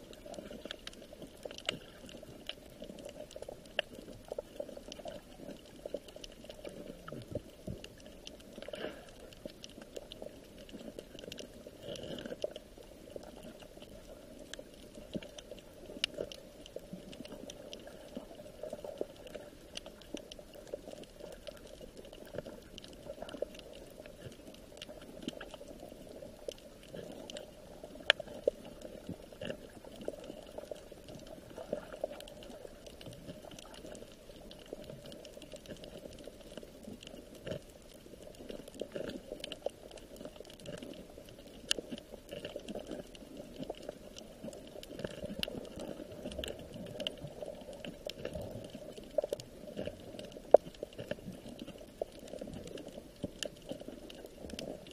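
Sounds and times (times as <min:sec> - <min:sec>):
water bubbling and gurgling: 0:00.0 - 0:54.9
small clicks and taps: 0:00.4 - 0:54.9.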